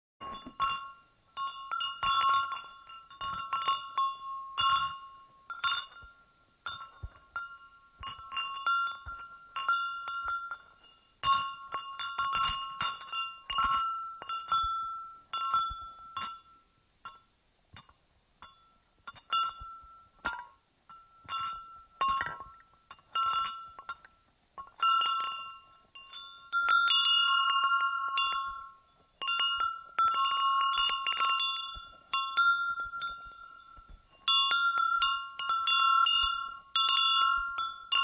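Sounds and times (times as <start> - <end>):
chimes ringing: 0.2 - 17.3, 18.4 - 38.0.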